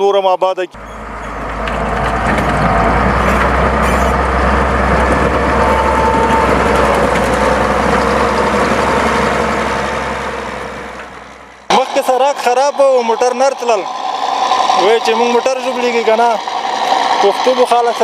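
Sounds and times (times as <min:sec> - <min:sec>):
heavy vehicle engine humming: 0:00.6 - 0:18.0.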